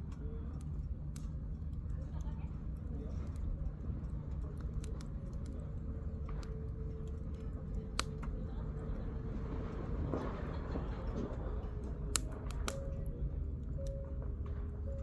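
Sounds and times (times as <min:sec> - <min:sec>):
campfire crackling and popping: 0:00.0 - 0:09.0, 0:10.0 - 0:14.3
low fire rumble: 0:00.0 - 0:15.0.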